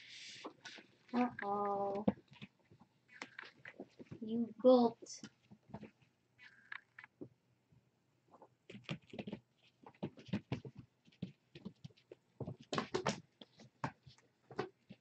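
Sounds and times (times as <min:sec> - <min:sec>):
kittens scampering on hard floor: 0:00.4 - 0:04.2, 0:05.2 - 0:07.3, 0:08.3 - 0:15.0.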